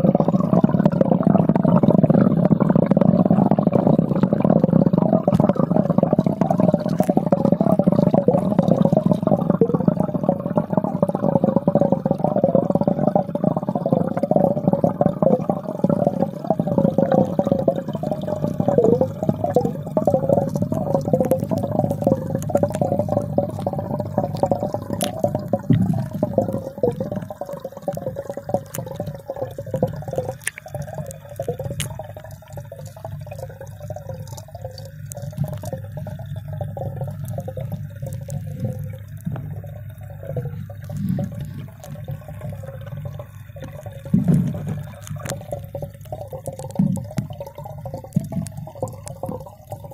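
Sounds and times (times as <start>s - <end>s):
water bubbling underwater: 0.0s - 49.9s.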